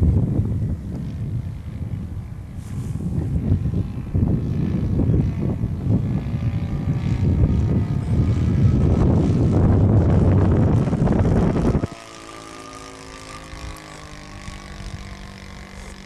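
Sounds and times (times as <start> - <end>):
model airplane engine running: 0.0 - 16.0.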